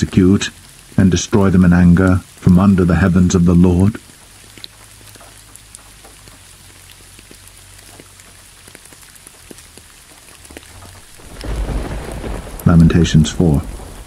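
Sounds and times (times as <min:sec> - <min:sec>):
light rain hissing: 0:00.0 - 0:14.0
raindrop ticks: 0:00.0 - 0:14.0.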